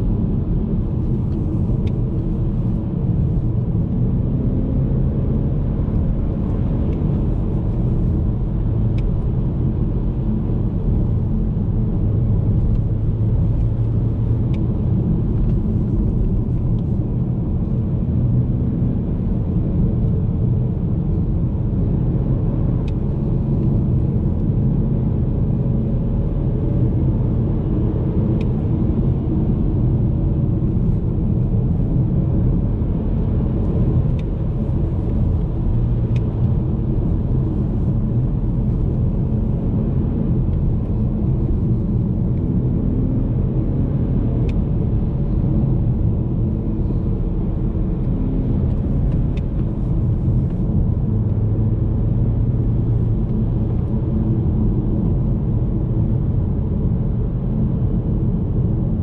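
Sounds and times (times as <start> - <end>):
road and tyre rumble: 0.0 - 59.0
car engine running: 5.5 - 24.8, 26.6 - 56.8.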